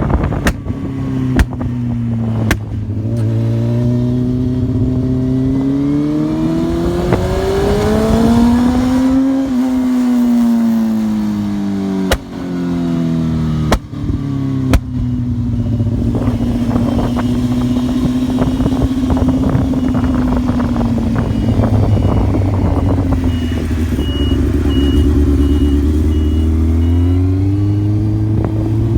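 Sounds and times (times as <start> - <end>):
quad bike engine revving: 0.0 - 28.9.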